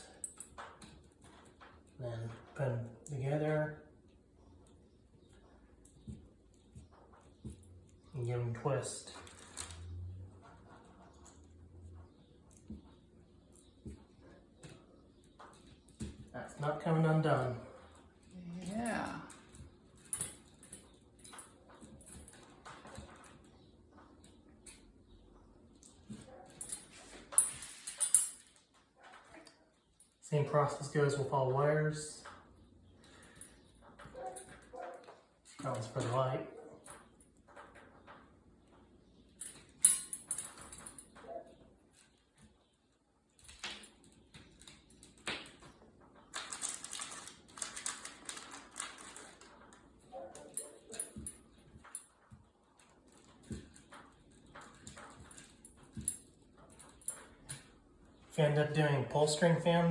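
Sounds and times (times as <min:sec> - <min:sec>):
wires crackling and rustling: 0:00.0 - 0:59.9.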